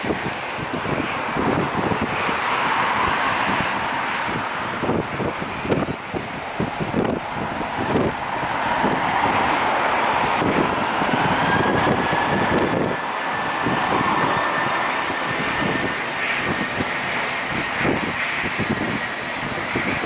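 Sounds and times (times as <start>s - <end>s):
jet engines roaring: 0.0s - 20.0s
wind buffeting microphone: 0.0s - 20.0s.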